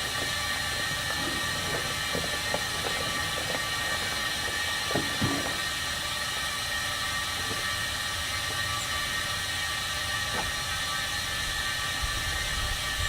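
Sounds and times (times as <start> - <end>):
air equipment hissing: 0.0 - 13.0.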